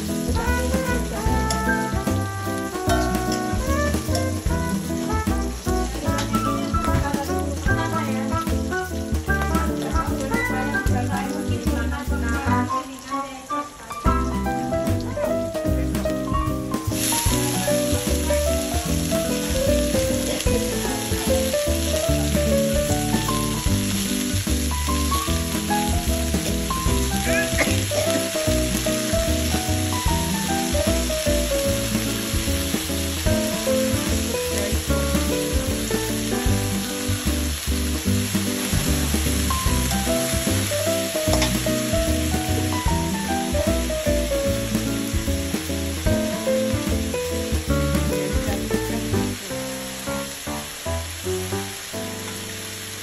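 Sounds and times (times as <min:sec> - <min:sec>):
background melody: 0:00.0 - 0:53.0
food sizzling in hot oil: 0:00.0 - 0:53.0.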